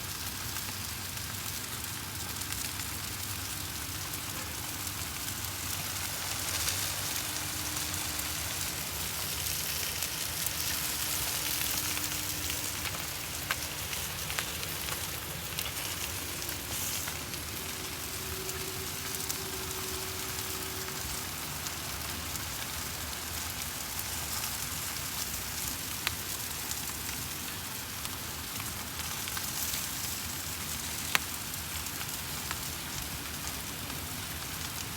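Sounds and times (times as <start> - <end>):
food sizzling on a grill: 0.0 - 34.9.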